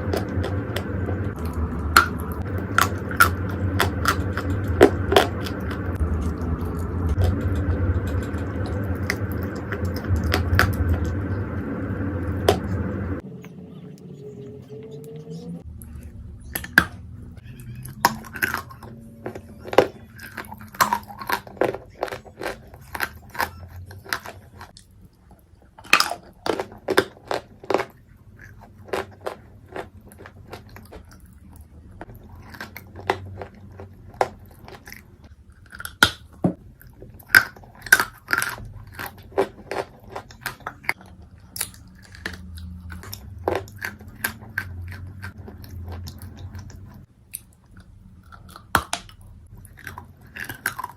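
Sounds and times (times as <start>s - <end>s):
dry clay crunching in mouth: 0.0s - 11.4s, 17.8s - 50.9s.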